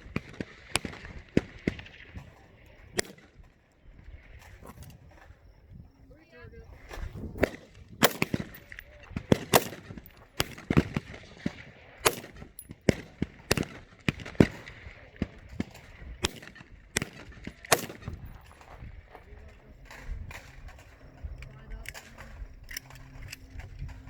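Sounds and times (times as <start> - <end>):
rifle shots: 0.0 - 3.5, 7.4 - 24.0.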